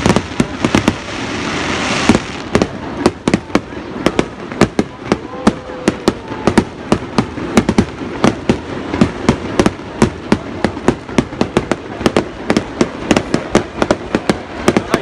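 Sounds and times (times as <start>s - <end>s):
continuous hiss: 0.0s - 15.0s
firework shells bursting: 1.8s - 15.0s.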